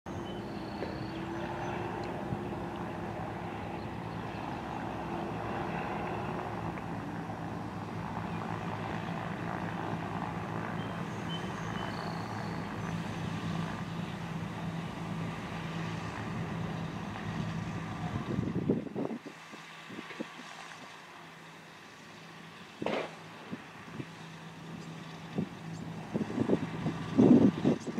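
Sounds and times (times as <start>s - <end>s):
twin propeller engines running: 0.0s - 27.9s.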